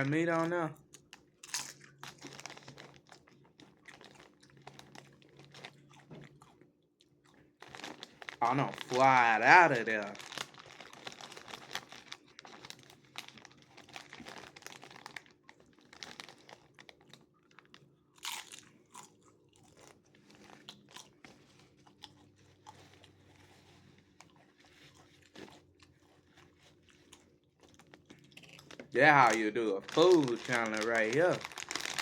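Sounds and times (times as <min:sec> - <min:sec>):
person chewing crunchy chips: 0:00.0 - 0:32.0.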